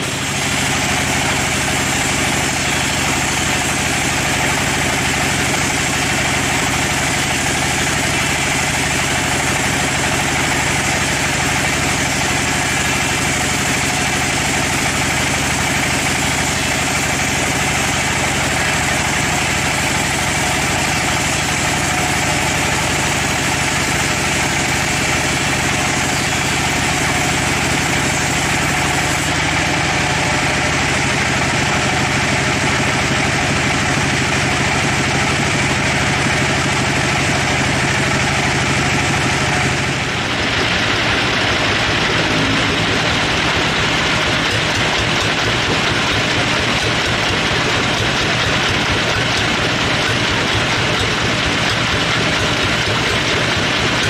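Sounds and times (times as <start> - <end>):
band sawmill cutting log: 0.0 - 54.0.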